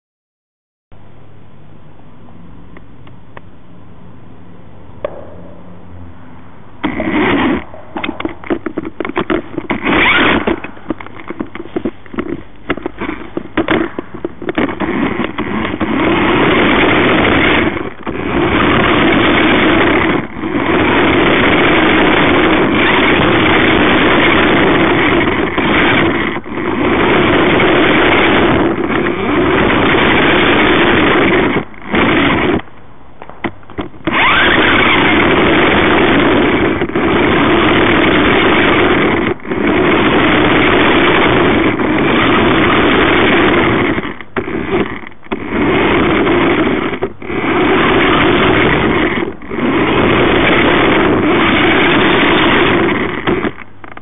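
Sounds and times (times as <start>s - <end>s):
remote control car motor whirring: 6.8s - 32.6s, 33.8s - 54.0s.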